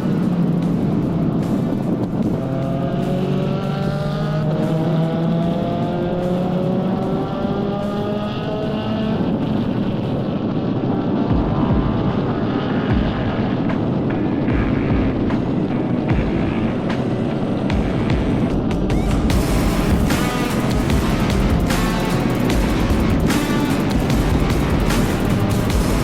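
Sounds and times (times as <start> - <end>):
race car engine accelerating: 0.0 - 17.6, 18.6 - 26.0
road and wind noise: 0.0 - 26.0.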